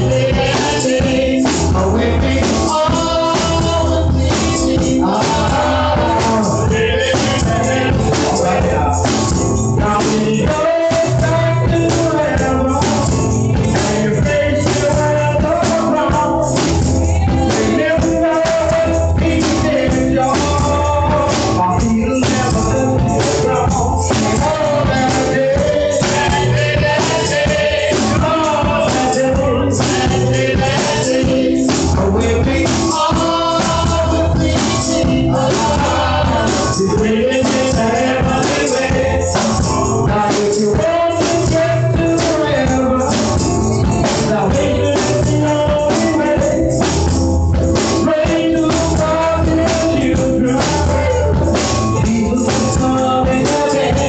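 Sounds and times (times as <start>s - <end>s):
drums: 0.0s - 54.0s
electric keyboard: 0.0s - 54.0s
person singing gospel: 0.0s - 54.0s.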